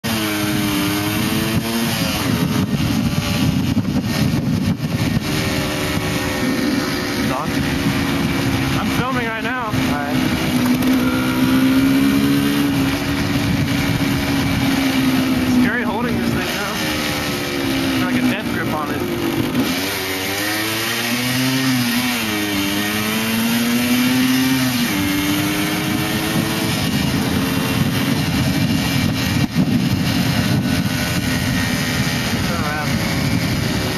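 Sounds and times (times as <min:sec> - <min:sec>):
motorcycle engine running: 0:00.0 - 0:33.9
steady rushing noise: 0:00.0 - 0:33.9
wind rumble on microphone: 0:00.1 - 0:33.9.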